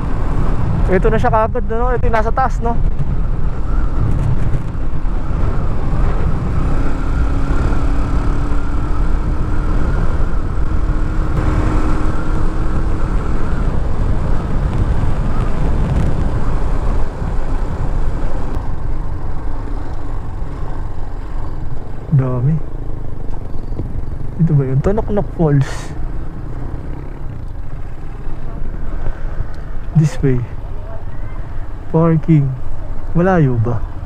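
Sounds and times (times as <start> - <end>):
motorcycle engine drone: 0.0 - 34.0
wind rushing over microphone: 0.0 - 34.0.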